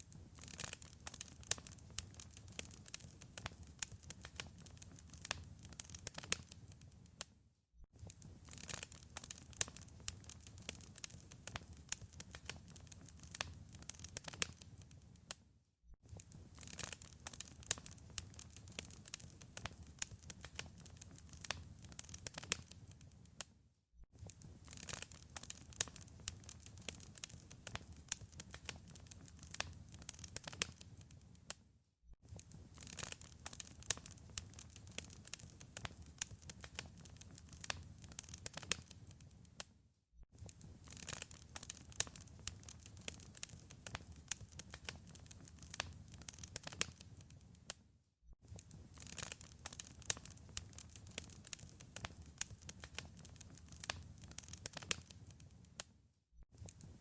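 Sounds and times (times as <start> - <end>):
wood fire crackling: 0.0 - 7.0, 8.0 - 15.3, 16.1 - 23.5, 24.2 - 31.6, 32.3 - 39.7, 40.4 - 47.7, 48.5 - 55.9, 56.6 - 57.0.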